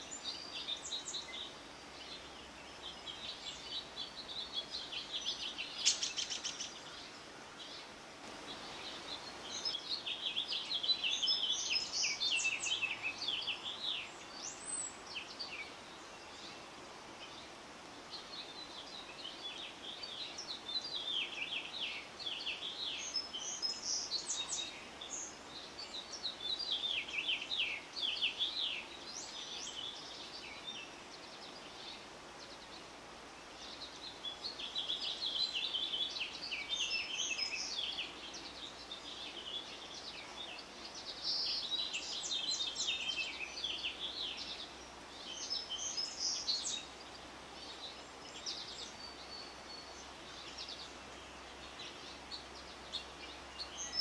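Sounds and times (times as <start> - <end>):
faint background hiss: 0.0 - 54.0
songbirds chirping: 0.0 - 54.0.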